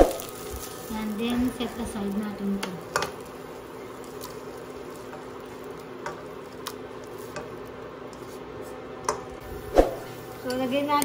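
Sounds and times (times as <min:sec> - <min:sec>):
oil sizzling in a wok: 0:00.0 - 0:11.0.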